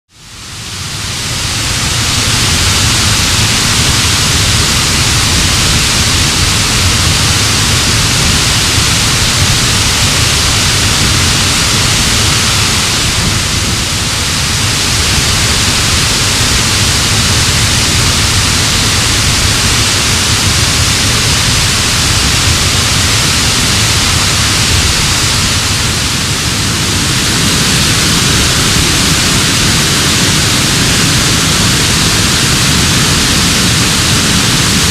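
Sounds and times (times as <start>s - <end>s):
waterfall rushing over rocks: 0.1s - 34.9s.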